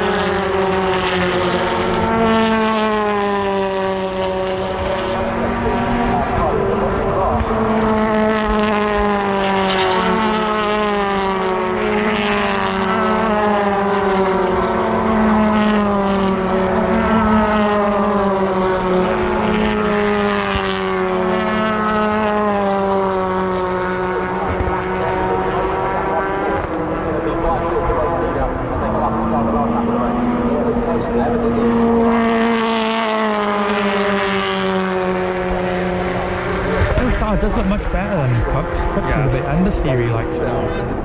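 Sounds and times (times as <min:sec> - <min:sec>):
race car engine at high revs: 0:00.0 - 0:41.0.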